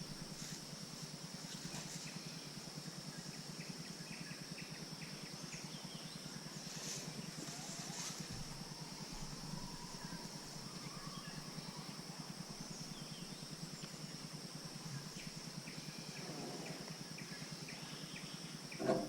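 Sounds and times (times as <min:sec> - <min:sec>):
insect drone: 0:00.0 - 0:19.0
low steady hum: 0:00.0 - 0:19.0.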